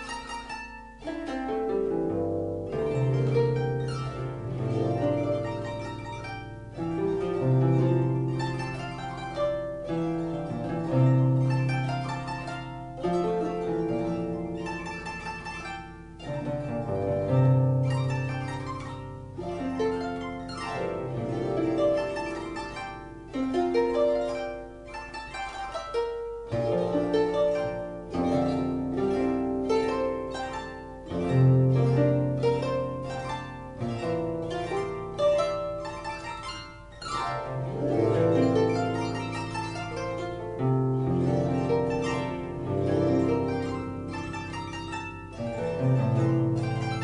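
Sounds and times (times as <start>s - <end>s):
harp music: 0.0s - 47.0s.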